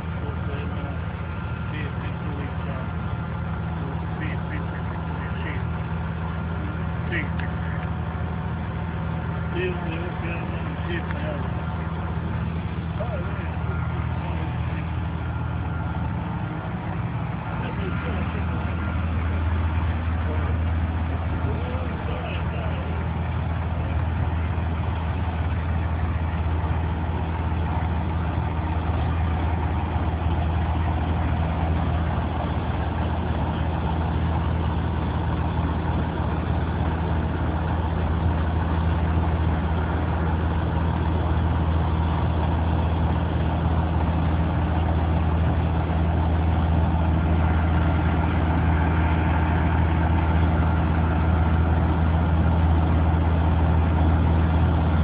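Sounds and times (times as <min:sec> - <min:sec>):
road roller diesel engine running: 0:00.0 - 0:55.0.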